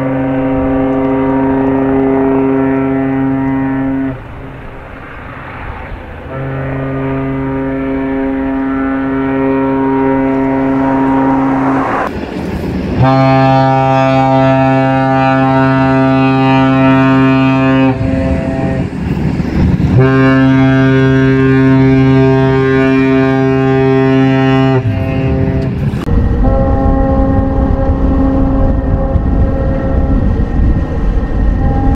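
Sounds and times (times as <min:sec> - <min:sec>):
ship's horn blasts: 0:00.0 - 0:05.0, 0:06.2 - 0:12.1, 0:13.0 - 0:31.9
rushing noise: 0:00.0 - 0:31.9.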